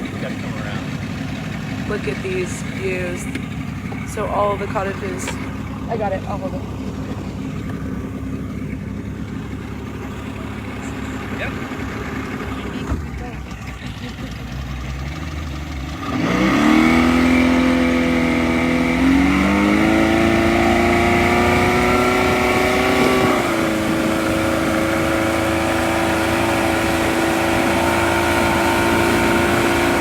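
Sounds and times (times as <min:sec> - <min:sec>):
boat engine throttling up: 0:00.0 - 0:30.0.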